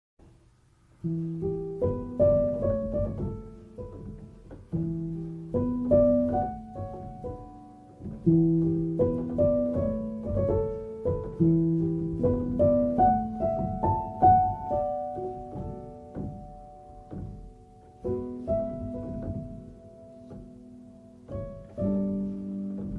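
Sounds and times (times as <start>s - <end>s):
gentle solo piano: 0.8s - 22.9s.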